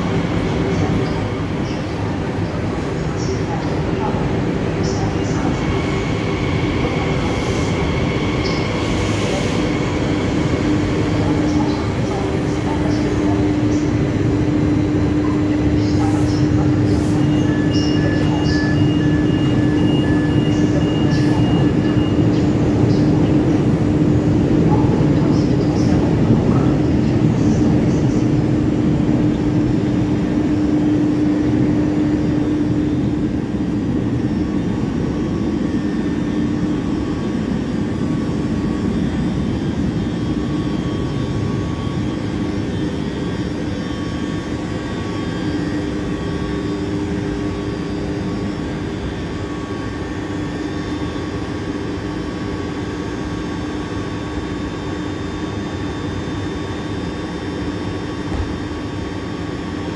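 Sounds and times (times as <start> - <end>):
electric train equipment humming: 0.0 - 59.9.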